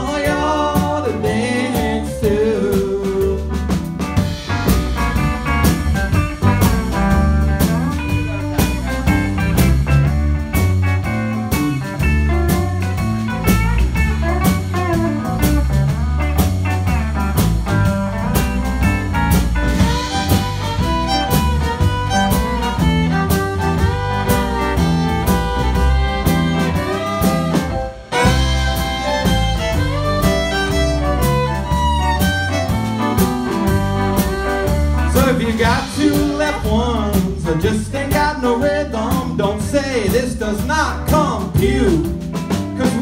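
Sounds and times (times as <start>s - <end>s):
electric guitar: 0.0s - 43.0s
live country band playing: 0.0s - 43.0s
fiddle: 4.2s - 39.6s.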